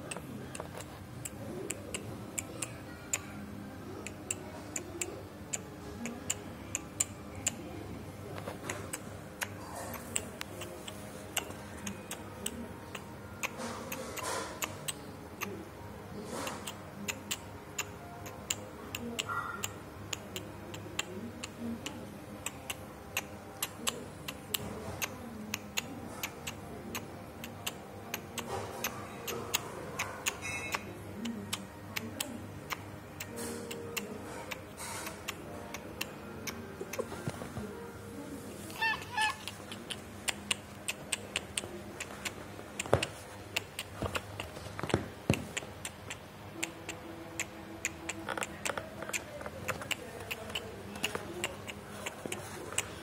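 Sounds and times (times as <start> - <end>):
faint background music: 0.0 - 53.0
faint background voices: 0.0 - 53.0.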